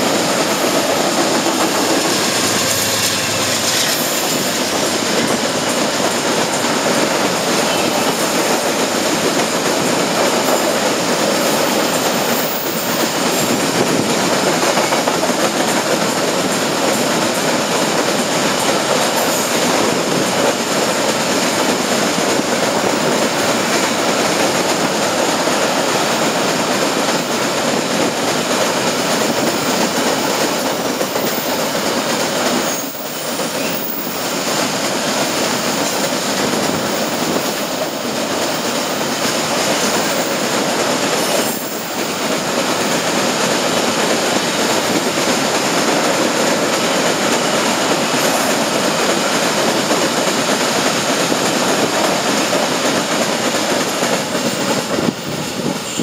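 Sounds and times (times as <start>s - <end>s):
train wagons rumbling on rails: 0.0s - 56.0s.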